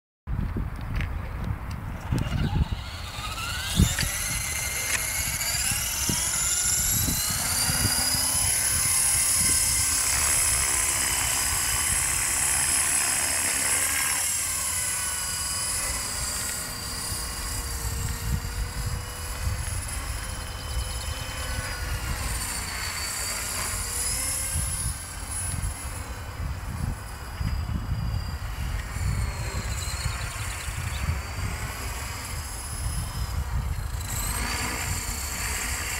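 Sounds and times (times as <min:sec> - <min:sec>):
rc helicopter motor whine: 0:00.5 - 0:35.9.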